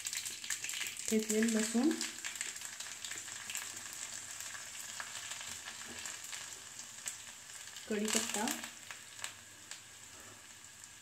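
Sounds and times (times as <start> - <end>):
frying hiss with fine pops: 0.0 - 11.0.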